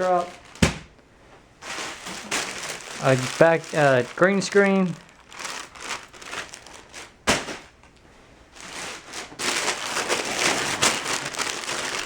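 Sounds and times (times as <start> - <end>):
cloth rustling and crinkling: 0.0 - 12.0.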